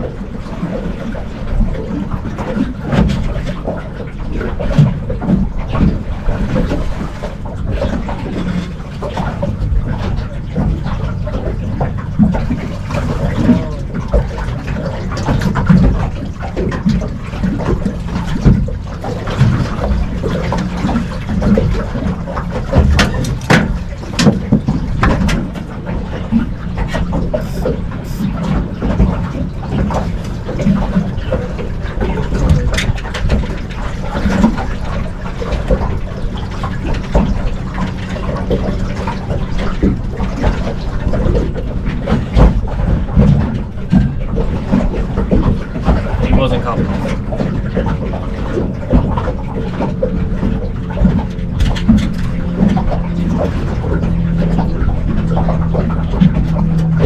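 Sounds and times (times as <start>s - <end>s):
water sloshing around boat: 0.0s - 57.0s
knocks and clatter: 4.6s - 57.0s.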